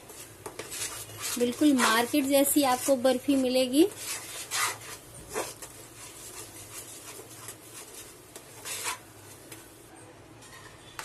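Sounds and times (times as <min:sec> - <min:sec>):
metal spatula scraping a pan: 0:00.0 - 0:09.4.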